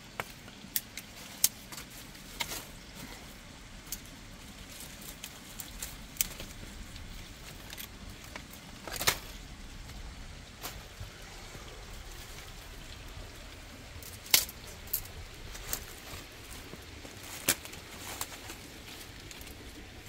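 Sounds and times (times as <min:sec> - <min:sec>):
twigs crackling and snapping: 0:00.0 - 0:20.0.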